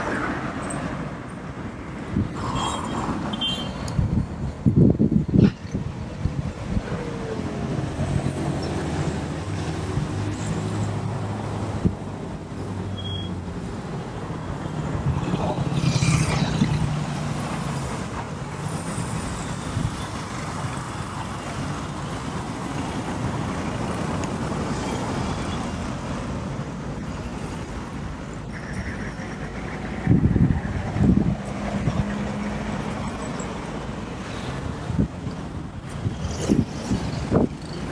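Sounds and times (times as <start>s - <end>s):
road traffic: 0.0s - 37.9s.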